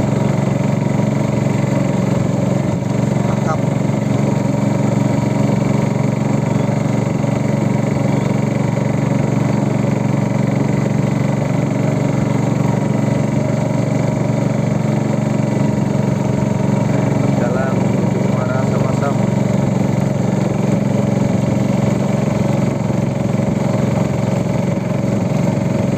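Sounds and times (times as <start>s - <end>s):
boat engine running steadily: 0.0s - 25.9s.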